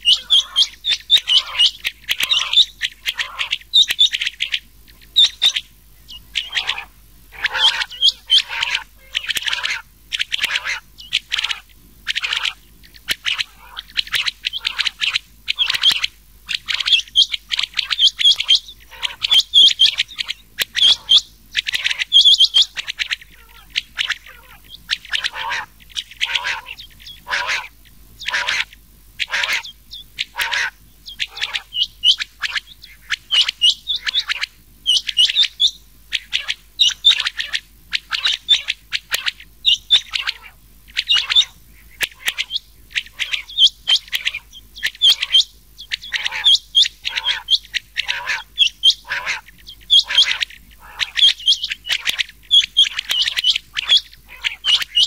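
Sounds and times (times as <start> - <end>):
quail calls: 0.0 - 55.0.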